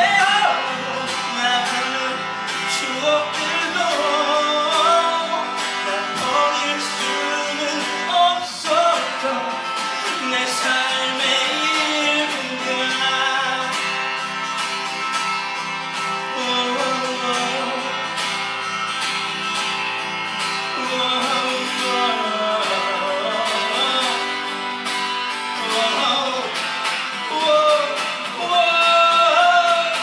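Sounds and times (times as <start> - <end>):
man singing a ballad: 0.0 - 14.1, 16.0 - 18.2, 20.6 - 30.0
acoustic guitar strumming: 0.0 - 30.0.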